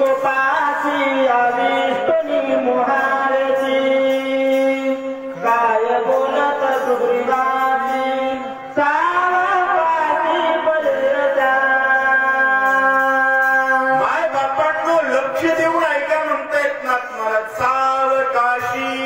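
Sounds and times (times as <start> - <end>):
man singing in held notes: 0.0 - 19.0.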